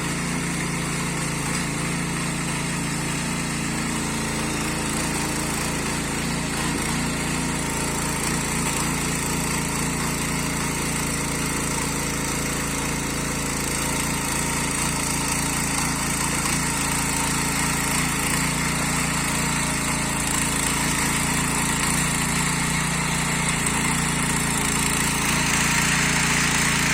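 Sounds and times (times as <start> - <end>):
garden tiller engine running: 0.0 - 26.9
tines working soil: 0.0 - 26.9.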